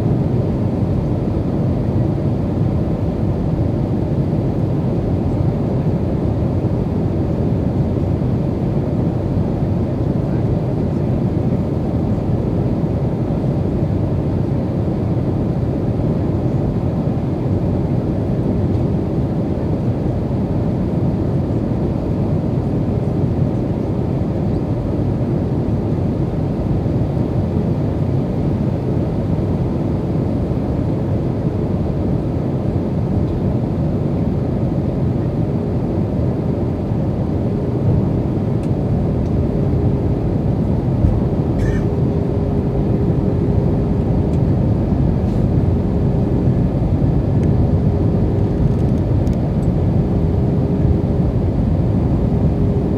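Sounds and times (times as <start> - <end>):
low hum of jet engines: 0.0 - 52.9.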